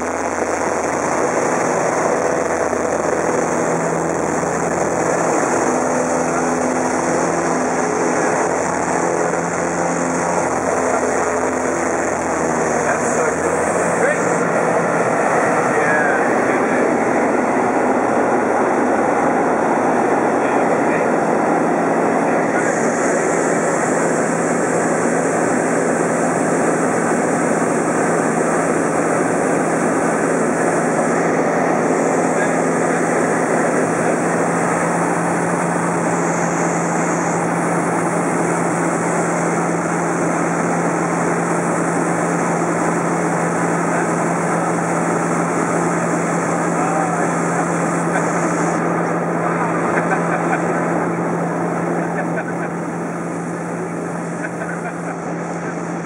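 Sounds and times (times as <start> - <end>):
airplane engine and propeller: 0.0 - 56.0
constant low hum: 0.0 - 56.0.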